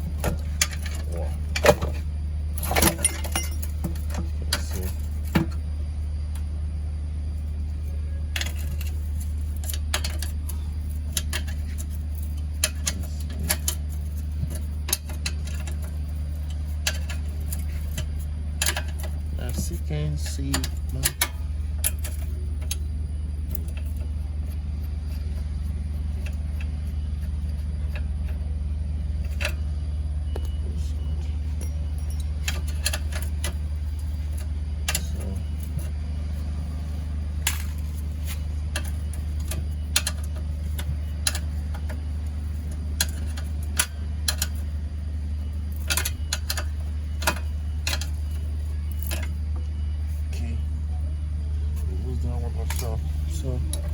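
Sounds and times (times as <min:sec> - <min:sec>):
spanner clicking on bolts: 0:00.0 - 0:05.6, 0:08.3 - 0:29.7, 0:31.6 - 0:49.7
steady low hum: 0:00.0 - 0:53.9.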